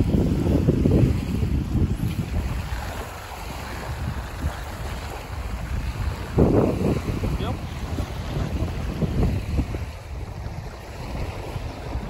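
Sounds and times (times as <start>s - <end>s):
small waves lapping: 0.0s - 12.0s
wind buffeting microphone: 0.0s - 12.0s.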